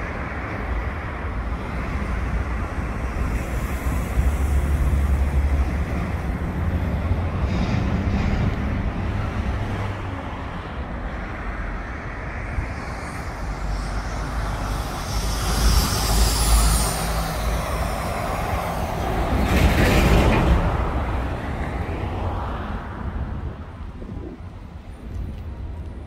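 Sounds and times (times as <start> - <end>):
traffic rumble: 0.0 - 26.0
vehicles passing: 0.0 - 26.0.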